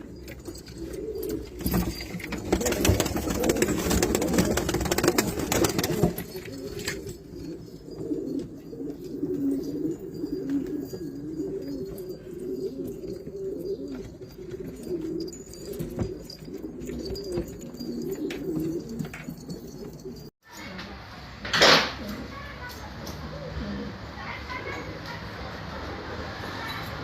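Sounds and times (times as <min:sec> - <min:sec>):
pigeons cooing: 0:00.0 - 0:20.3, 0:21.9 - 0:25.2.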